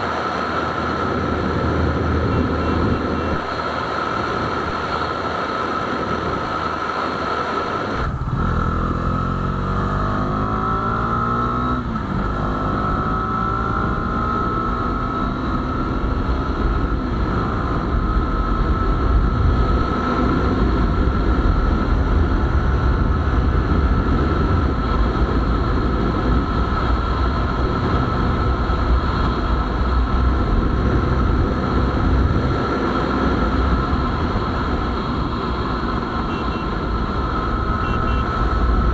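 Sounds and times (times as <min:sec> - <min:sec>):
wind noise on microphone: 0:00.0 - 0:38.9
motorcycle engine accelerating: 0:07.7 - 0:38.9.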